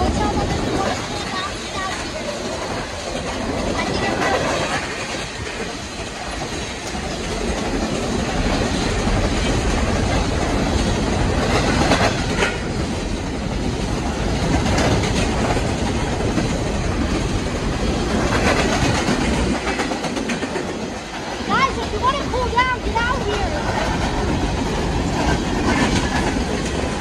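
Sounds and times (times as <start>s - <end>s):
freight train rumble: 0.0s - 27.0s.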